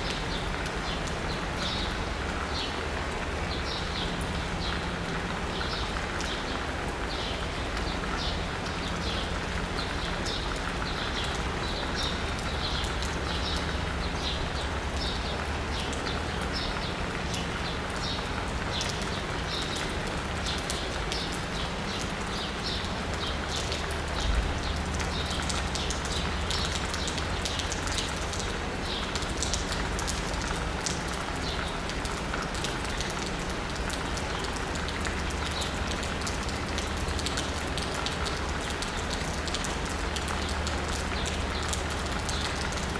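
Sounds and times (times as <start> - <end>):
rain on asphalt and rooftops: 0.0 - 42.9.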